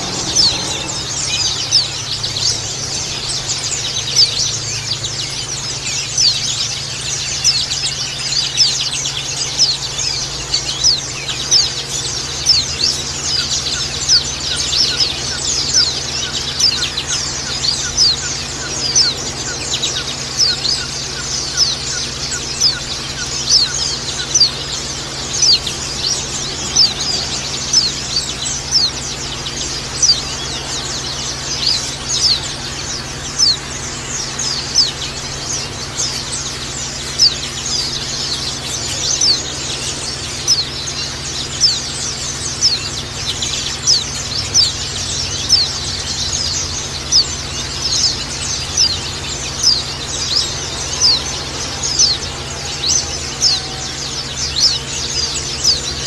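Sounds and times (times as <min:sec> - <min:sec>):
flock of birds chirping: 0:00.0 - 0:56.0.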